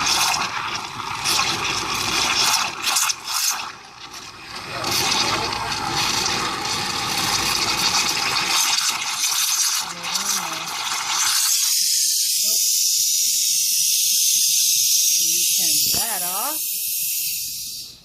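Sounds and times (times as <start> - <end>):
steam wand hissing and gurgling: 0.0 - 18.0.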